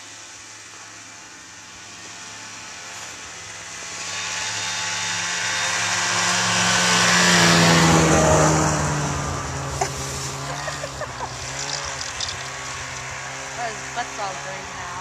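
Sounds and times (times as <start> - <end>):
snowmobile engine passing by: 0.0 - 15.0.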